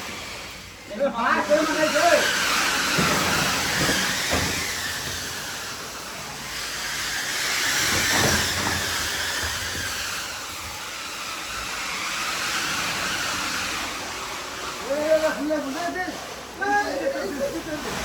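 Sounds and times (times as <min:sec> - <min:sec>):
crushed ice rushing through chute: 0:00.0 - 0:18.0.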